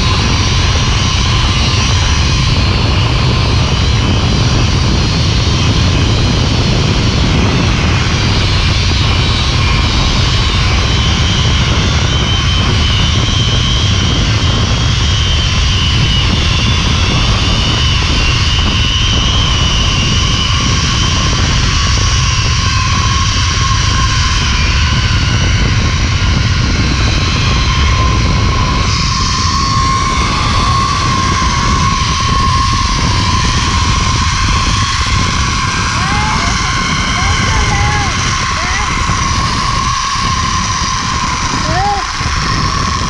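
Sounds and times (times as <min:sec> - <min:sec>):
low whine: 0:00.0 - 0:43.0
pulley wheels whining on steel cable: 0:00.0 - 0:43.0
wind rumble on microphone: 0:00.0 - 0:43.0.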